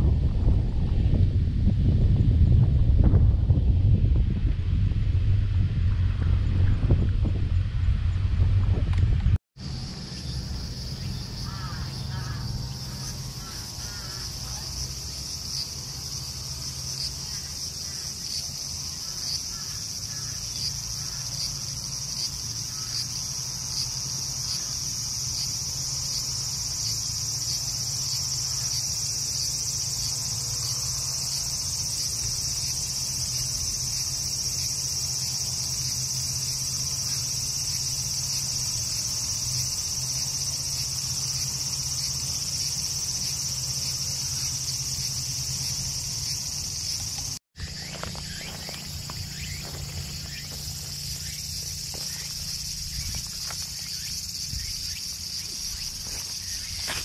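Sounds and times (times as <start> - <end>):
insects chirring: 9.6 - 57.0.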